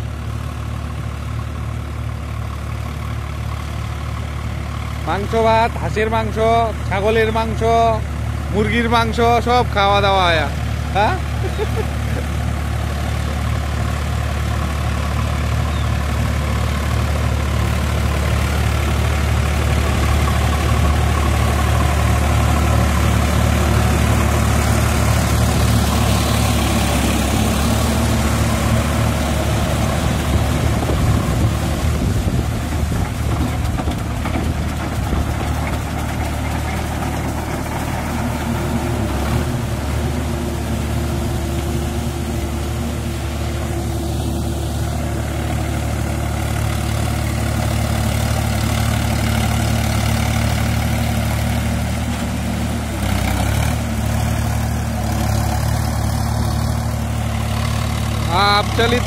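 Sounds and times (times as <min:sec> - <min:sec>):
tractor diesel engine under load: 0:00.0 - 0:59.0
rotavator blades churning mud: 0:10.6 - 0:59.0.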